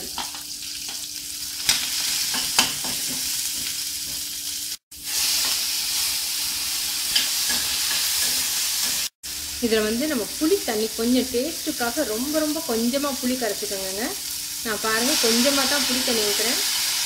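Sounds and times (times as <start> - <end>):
onion and tomato sizzling in oil: 0.0 - 17.0.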